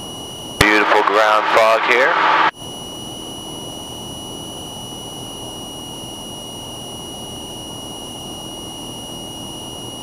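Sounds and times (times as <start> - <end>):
high-pitched whine: 0.0 - 10.0.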